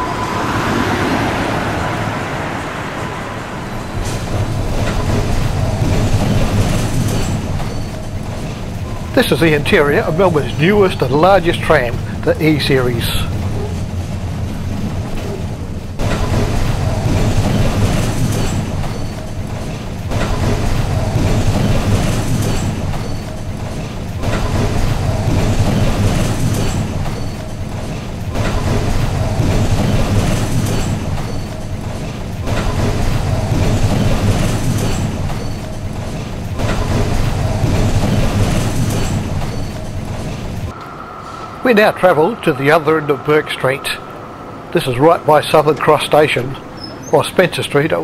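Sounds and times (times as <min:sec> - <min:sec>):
tram wheels rumbling on rail: 0:00.0 - 0:48.0.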